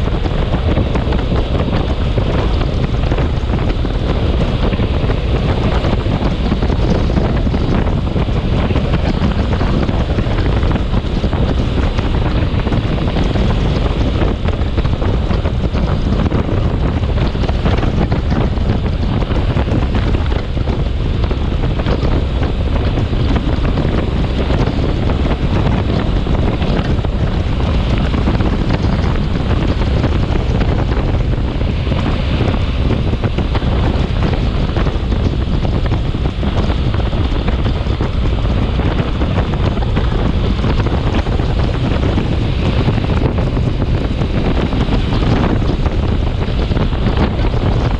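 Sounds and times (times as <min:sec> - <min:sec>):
storm wind buffeting microphone: 0:00.0 - 0:47.9.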